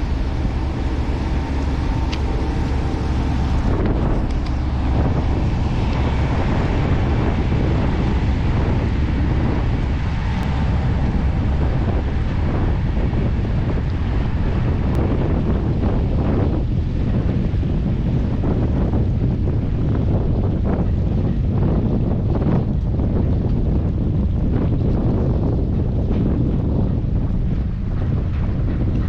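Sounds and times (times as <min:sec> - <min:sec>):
low engine rumble: 0:00.0 - 0:29.0
wind buffeting microphone: 0:00.0 - 0:29.0.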